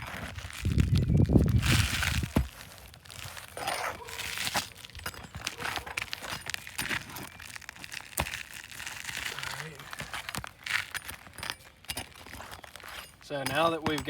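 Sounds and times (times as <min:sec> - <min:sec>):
shingles scraping and crackling: 0:00.0 - 0:14.0.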